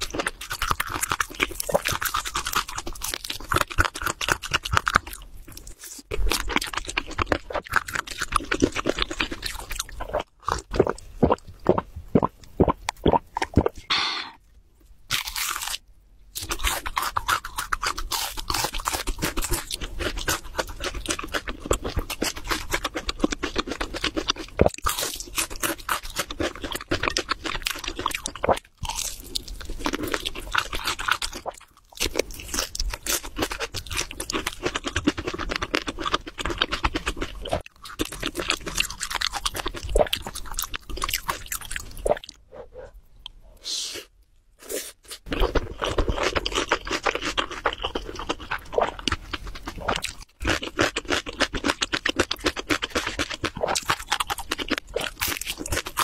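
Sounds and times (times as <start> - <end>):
crunching fried chicken: 0.0 - 11.4, 15.1 - 42.3, 44.6 - 56.0.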